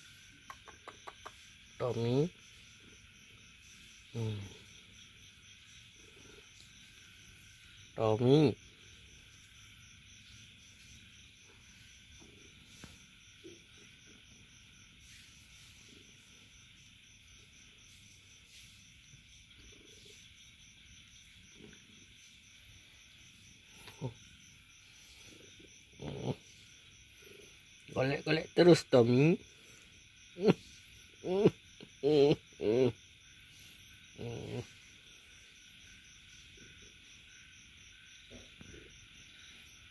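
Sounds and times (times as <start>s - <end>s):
crickets chirping: 0.0s - 39.9s
even hiss: 0.0s - 39.9s.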